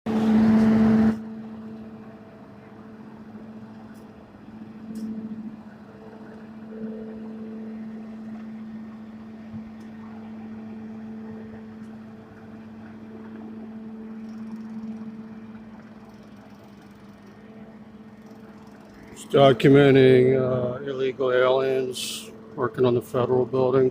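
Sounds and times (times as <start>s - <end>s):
steady mechanical hum: 0.1s - 23.9s.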